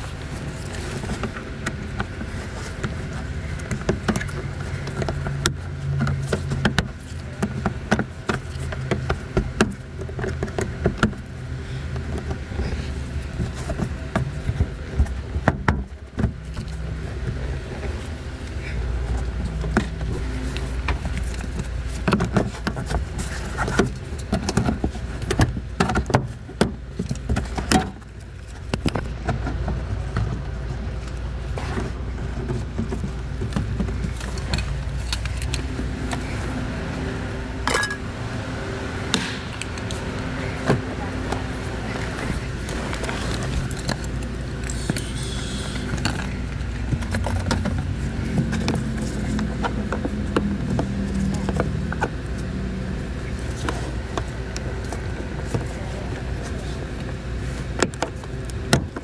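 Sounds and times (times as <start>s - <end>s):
low hum: 0.0s - 59.0s.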